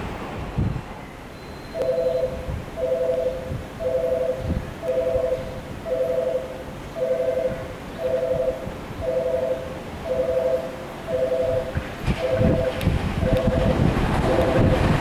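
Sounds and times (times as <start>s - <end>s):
train rumble and wheel knocks: 0.0s - 15.0s
two-tone electronic warning chime: 1.3s - 14.7s.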